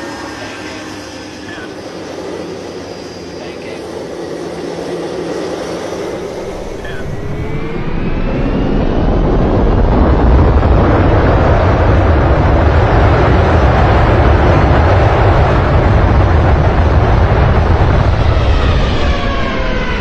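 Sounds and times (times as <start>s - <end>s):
airplane engines roaring: 0.0s - 20.0s.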